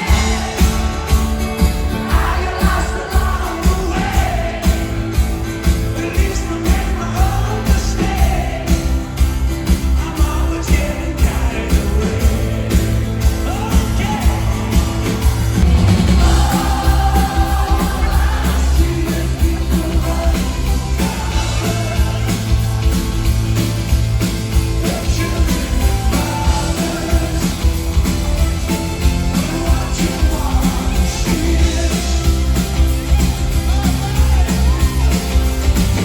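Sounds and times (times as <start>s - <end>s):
lead vocal singing: 0.0s - 36.0s
live rock band playing: 0.0s - 36.0s
steady drum beat: 0.0s - 36.0s.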